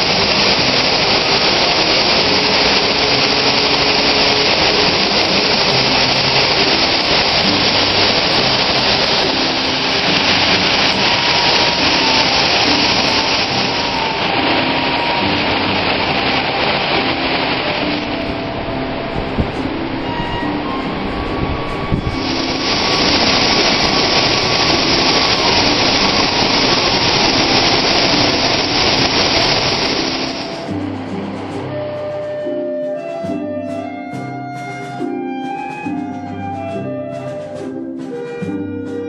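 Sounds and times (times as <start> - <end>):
white water rushing over rocks: 0.0 - 38.6.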